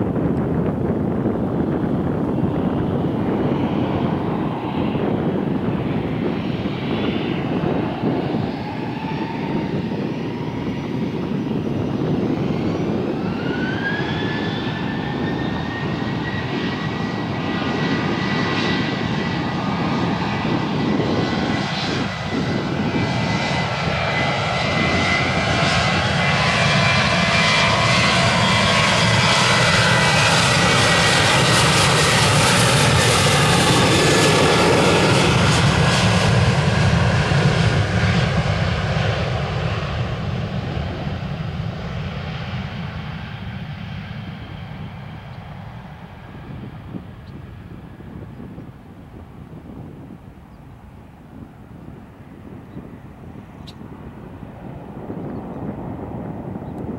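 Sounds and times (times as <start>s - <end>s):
jet engines spooling up: 0.1s - 56.9s.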